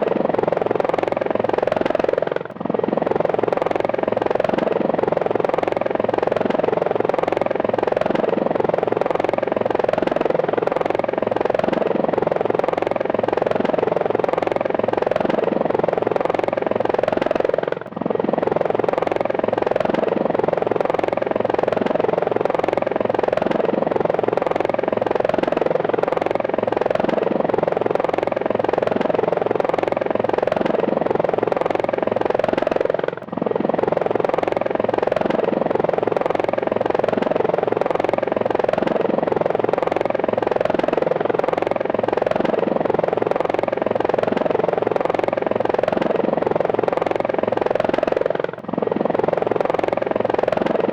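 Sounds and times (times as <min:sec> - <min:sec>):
helicopter rotor beating: 0:00.0 - 0:50.9.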